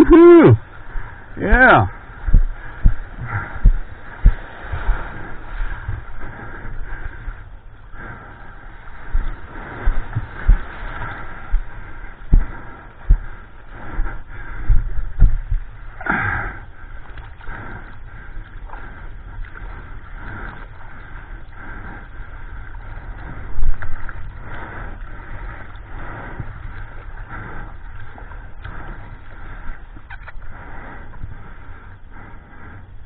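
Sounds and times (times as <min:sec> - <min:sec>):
sea water splashing over surfboard: 0:00.0 - 0:32.9
water buffeting microphone: 0:00.0 - 0:33.0.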